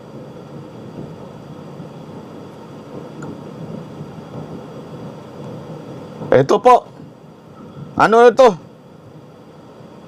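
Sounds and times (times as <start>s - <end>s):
low room hum and hiss: 0.0s - 10.0s.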